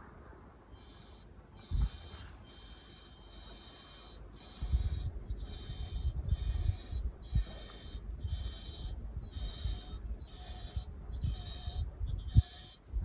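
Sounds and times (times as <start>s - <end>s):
clock mechanism squeaking: 0.7s - 12.9s.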